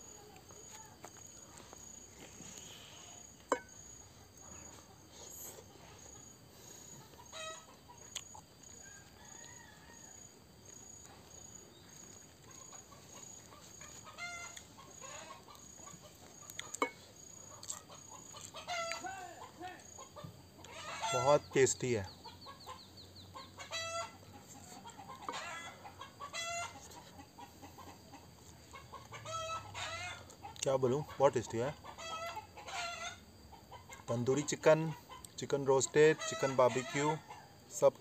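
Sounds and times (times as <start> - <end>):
chickens clucking: 1.4 - 9.6, 10.7 - 38.0.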